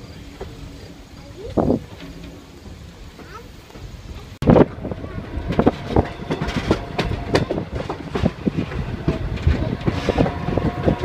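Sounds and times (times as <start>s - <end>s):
train rumbling: 0.0s - 11.0s
train wheels clacking and rattling: 0.0s - 11.0s.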